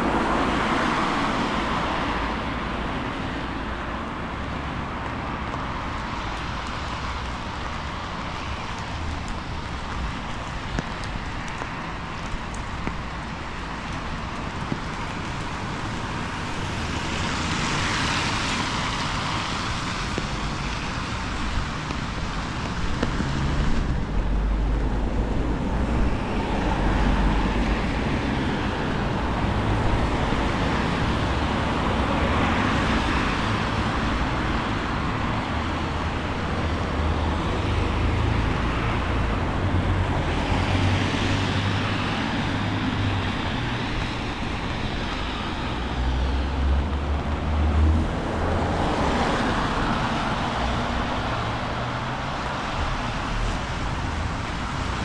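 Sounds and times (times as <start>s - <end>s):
low traffic rumble: 0.0s - 55.0s
vehicles passing on wet road: 0.0s - 55.0s.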